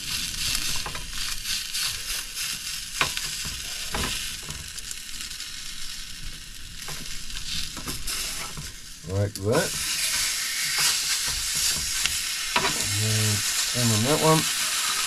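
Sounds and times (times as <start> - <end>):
sausages sizzling in a pan: 0.0 - 15.0.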